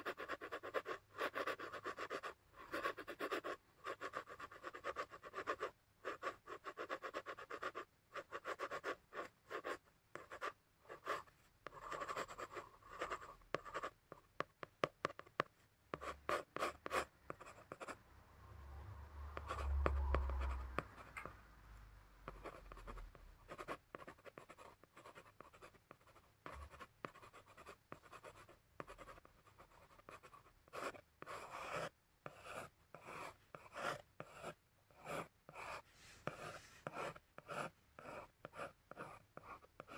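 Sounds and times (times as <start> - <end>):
pencil scratching on paper: 0.0 - 18.0, 22.3 - 39.9.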